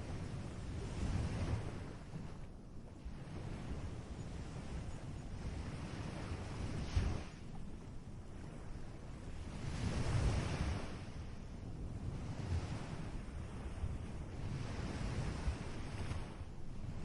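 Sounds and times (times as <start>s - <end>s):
ocean waves breaking: 0.0s - 17.0s
wind rumble on microphone: 0.0s - 17.0s.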